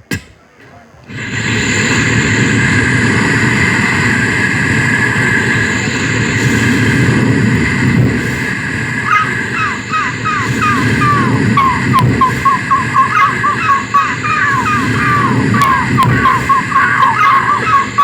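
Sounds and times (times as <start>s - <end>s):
vocal imitation of rushing wind: 1.1s - 18.0s.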